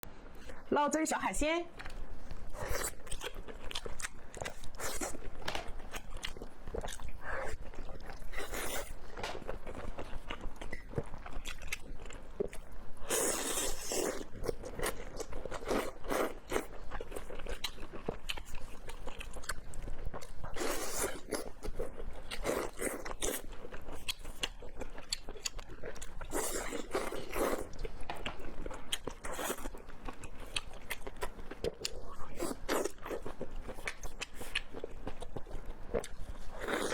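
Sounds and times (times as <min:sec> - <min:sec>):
person chewing food: 0:01.8 - 0:36.9.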